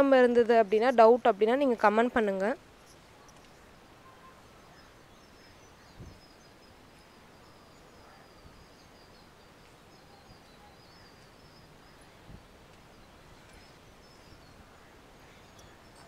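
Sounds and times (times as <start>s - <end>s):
faint background hiss: 0.0s - 16.0s
small birds chirping: 0.3s - 16.0s.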